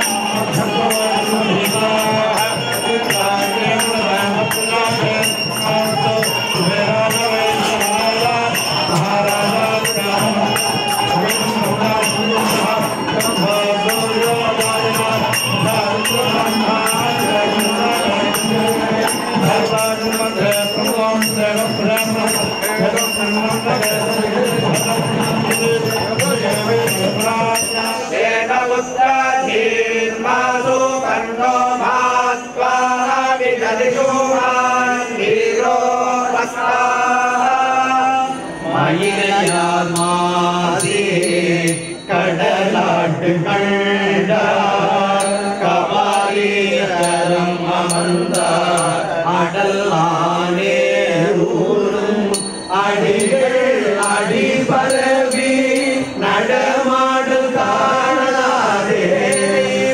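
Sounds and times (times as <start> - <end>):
priests chanting in unison: 0.0 - 59.9.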